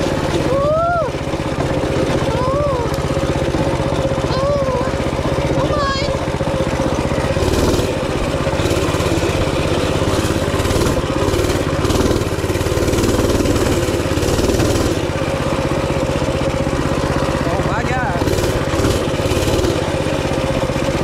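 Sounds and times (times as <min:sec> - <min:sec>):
small motorbike engine revving: 0:00.0 - 0:21.0.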